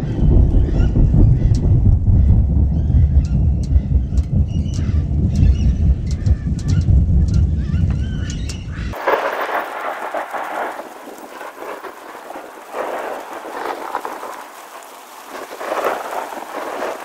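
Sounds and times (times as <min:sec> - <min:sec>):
deep thunder rumble: 0:00.0 - 0:17.0
rain hissing: 0:00.0 - 0:17.0.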